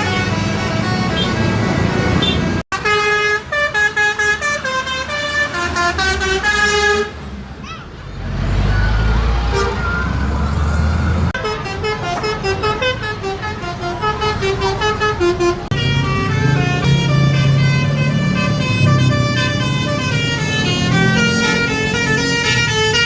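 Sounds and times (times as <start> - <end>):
musical bus horn playing a tune: 0.0 - 7.2, 11.4 - 23.0
bus engine drone: 0.0 - 23.0.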